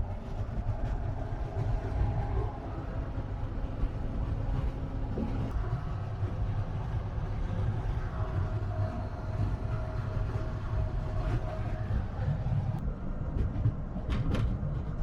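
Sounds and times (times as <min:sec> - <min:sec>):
bus rumbling from inside: 0:00.0 - 0:15.0.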